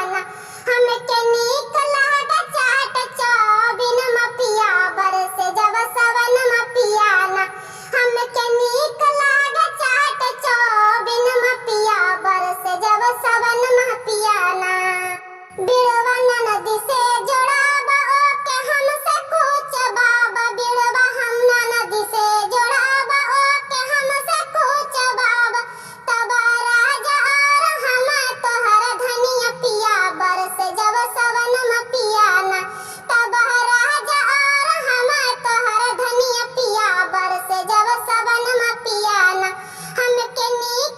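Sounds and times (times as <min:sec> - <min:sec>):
high-pitched child-like singing: 0:00.0 - 0:40.9.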